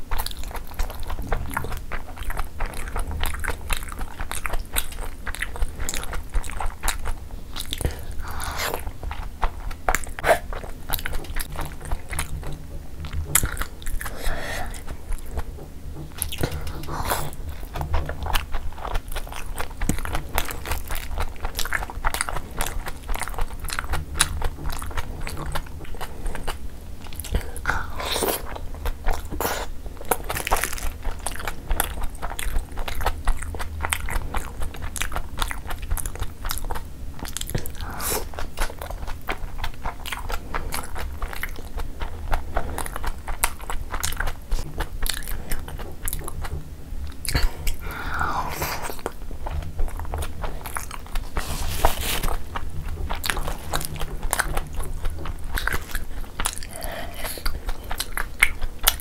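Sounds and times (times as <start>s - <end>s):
mouth clicks and smacks: 0.0s - 59.0s
wet biting and chewing: 0.0s - 59.0s.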